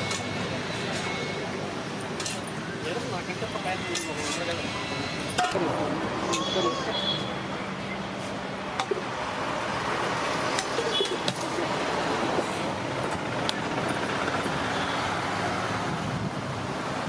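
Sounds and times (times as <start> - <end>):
roadside traffic noise: 0.0 - 17.0.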